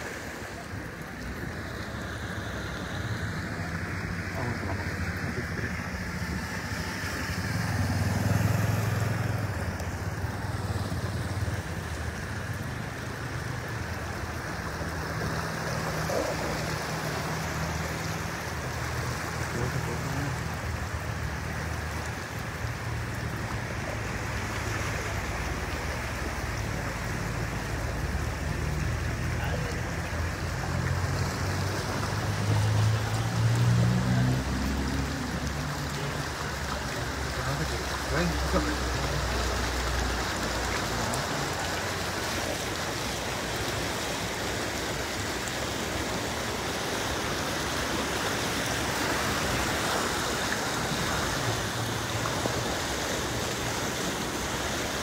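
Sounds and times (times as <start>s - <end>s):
water splashing around wheels: 0.0s - 55.0s
vehicle engine humming: 0.8s - 45.0s.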